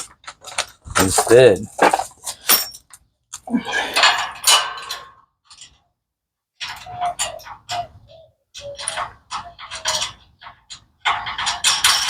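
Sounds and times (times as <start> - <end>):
metal bolts and tools clinking: 0.0 - 5.8, 6.6 - 7.8, 8.6 - 12.0.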